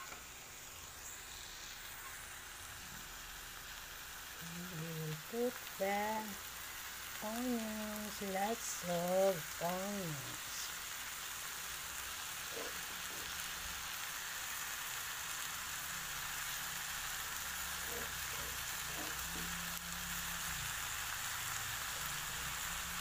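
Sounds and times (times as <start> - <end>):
food sizzling in a wok: 0.0 - 23.0.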